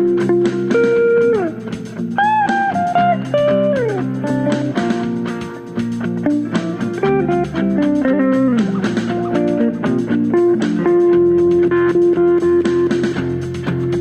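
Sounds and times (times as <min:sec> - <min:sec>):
bass line: 0:00.0 - 0:14.0
guitar melody: 0:00.0 - 0:14.0.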